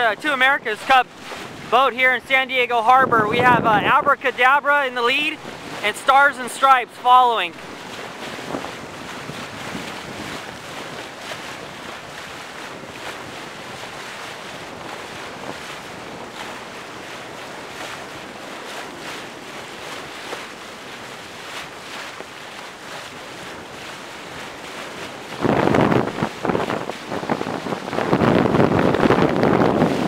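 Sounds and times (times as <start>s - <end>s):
water rushing around boat: 0.0s - 30.0s
wind buffeting microphone: 0.0s - 30.0s.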